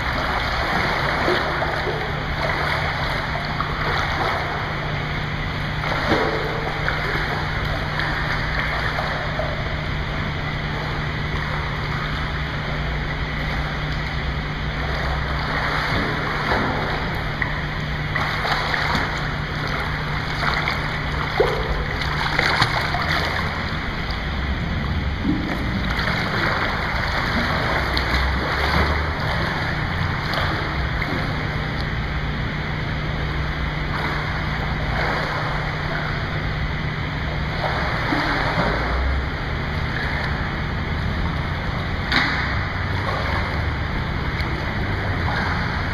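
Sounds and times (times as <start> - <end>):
pool water splashing: 0.0 - 45.9.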